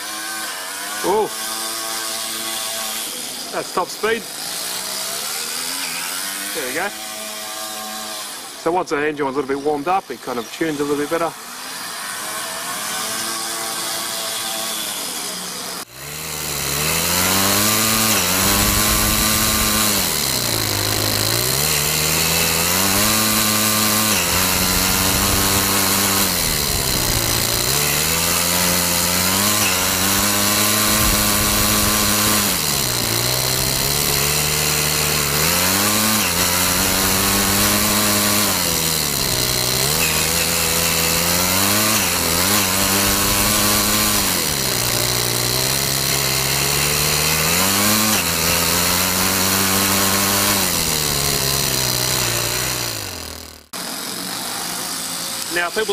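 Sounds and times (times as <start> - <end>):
model engine revving: 0.0 - 9.0, 10.3 - 55.9.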